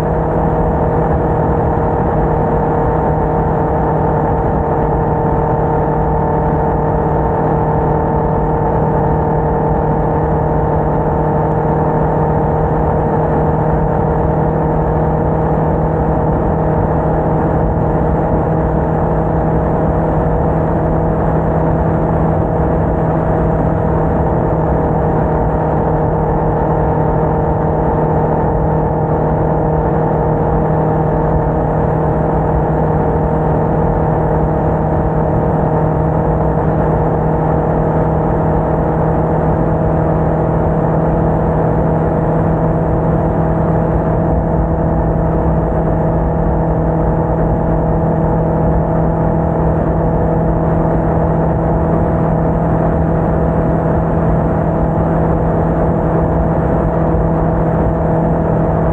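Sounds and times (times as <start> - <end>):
motorcycle engine droning: 0.0 - 58.9
wind and road noise: 0.0 - 58.9.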